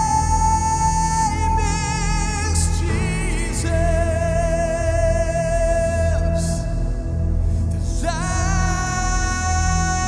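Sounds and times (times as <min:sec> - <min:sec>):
low backing music: 0:00.0 - 0:10.0.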